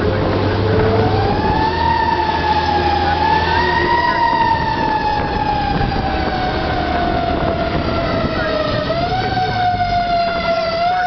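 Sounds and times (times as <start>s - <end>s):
fire engine siren wailing: 0.0s - 11.0s
truck engine humming: 0.0s - 11.0s.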